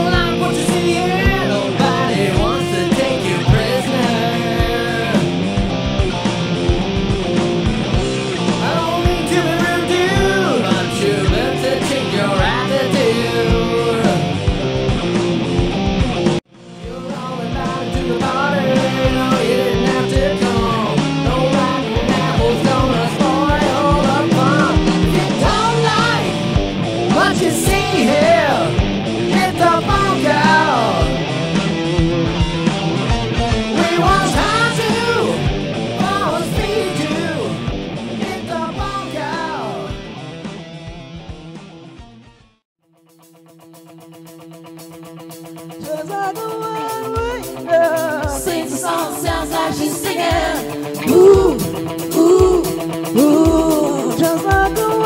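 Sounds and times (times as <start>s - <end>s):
high bending guitar melody: 0.0s - 55.0s
live rock band music: 0.0s - 55.0s.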